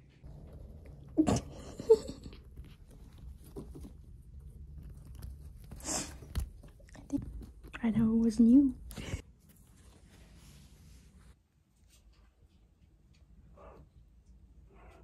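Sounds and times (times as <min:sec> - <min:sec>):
rustling: 0:00.0 - 0:13.2
low steady hum: 0:00.0 - 0:15.0.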